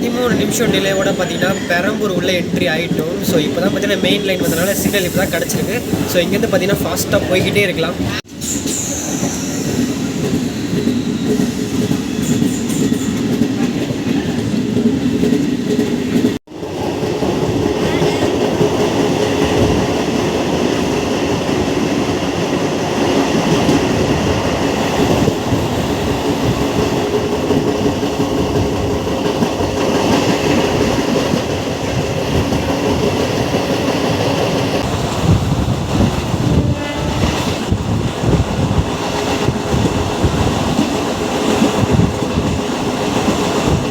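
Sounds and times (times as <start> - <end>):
train wheels rumbling on rails: 0.0 - 43.9
clickety-clack over rail joints: 6.7 - 43.9.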